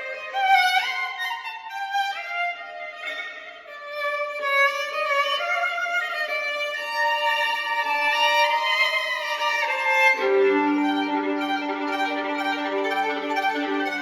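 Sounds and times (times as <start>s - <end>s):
solo violin slow melody: 0.0s - 14.0s.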